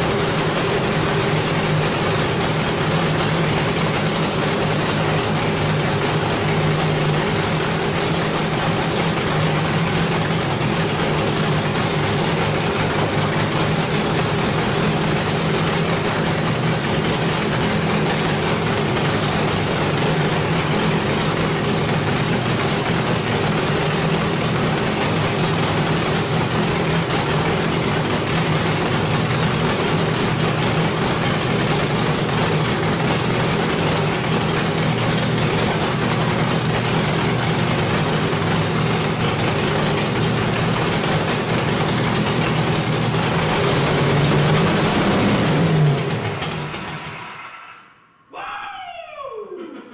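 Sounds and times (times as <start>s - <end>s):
engine idling loudly: 0.0s - 48.0s
engine winding down: 0.0s - 48.4s.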